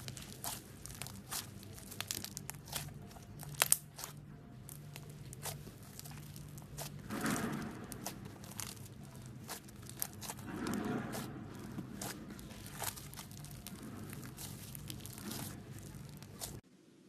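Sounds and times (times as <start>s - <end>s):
slime crackling and tearing: 0.0s - 16.6s.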